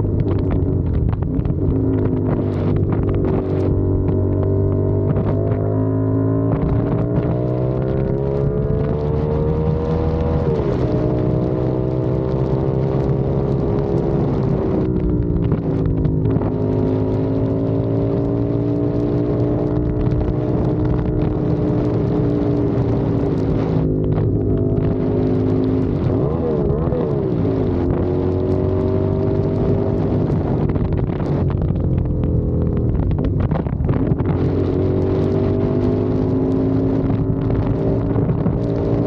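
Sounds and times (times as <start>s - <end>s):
motorcycle engine accelerating: 0.0s - 39.0s
wind noise on microphone: 0.0s - 39.0s.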